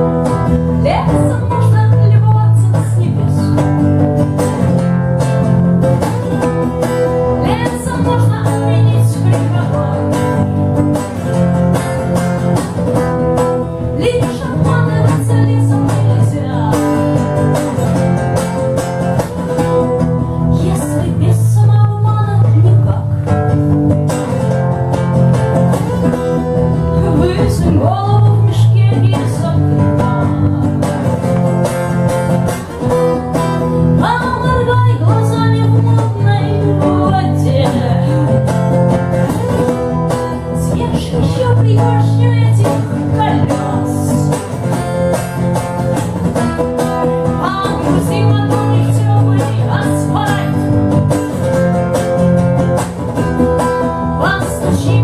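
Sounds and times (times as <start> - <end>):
woman singing: 0.0 - 12.4, 13.3 - 23.5, 25.7 - 55.0
electric bass guitar: 0.0 - 55.0
strummed acoustic guitar: 0.0 - 55.0.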